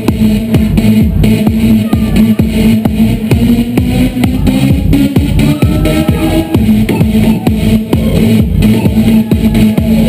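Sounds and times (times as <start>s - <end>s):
heavy kick drum: 0.0s - 10.0s
loud dance music: 0.0s - 10.0s
synth notes: 0.0s - 10.0s.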